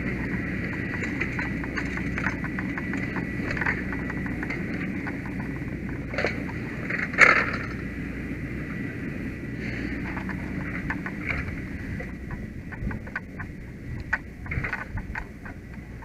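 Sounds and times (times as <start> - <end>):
light clicks and clatters: 0.0 - 7.8, 9.6 - 16.0
faint high whine: 0.0 - 16.0
low engine rumble: 0.0 - 16.0.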